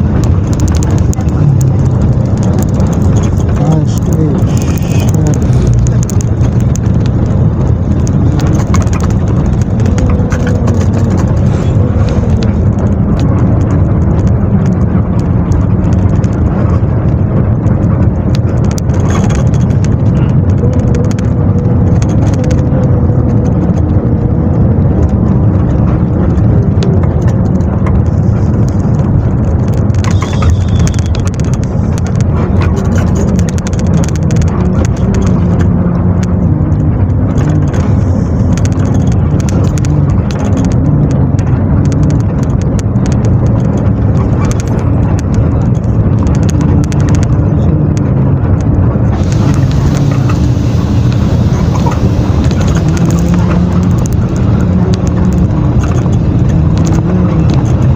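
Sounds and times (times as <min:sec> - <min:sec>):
bus engine and tyres rumbling: 0:00.0 - 0:57.9.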